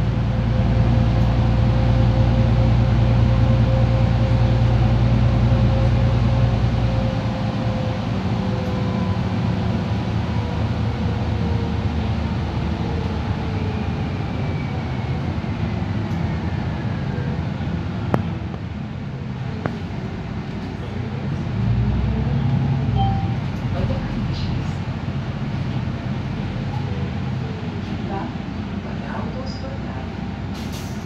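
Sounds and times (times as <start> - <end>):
bus engine hum: 0.0 - 31.0.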